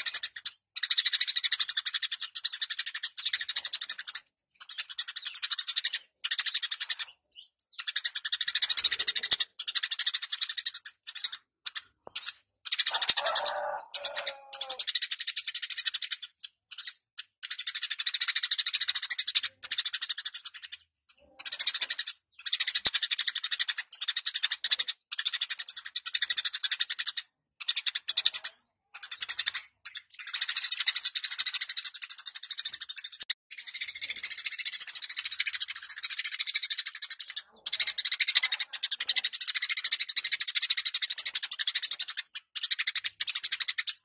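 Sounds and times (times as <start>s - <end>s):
sparrow buzzy chatter: 0.0s - 44.0s.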